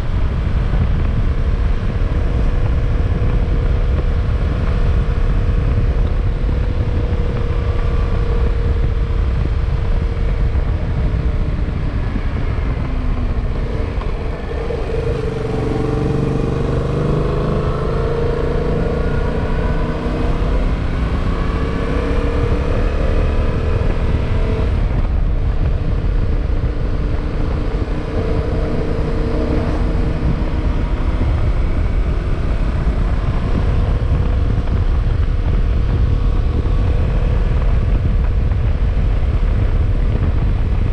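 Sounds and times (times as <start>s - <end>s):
motorcycle engine running: 0.0s - 40.9s
wind on microphone: 0.0s - 40.9s.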